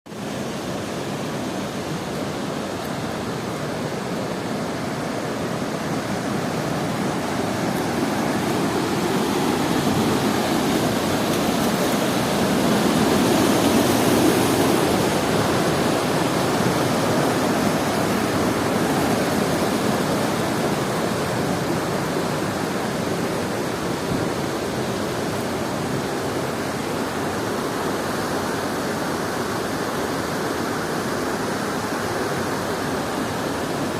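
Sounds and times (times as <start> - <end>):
small waterfall splashing: 0.1 - 33.9.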